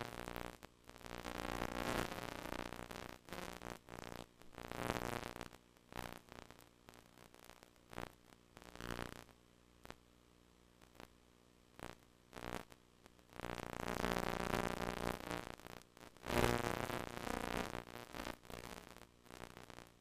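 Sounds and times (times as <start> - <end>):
tape buzz and hiss: 0.0 - 10.1, 11.7 - 20.0.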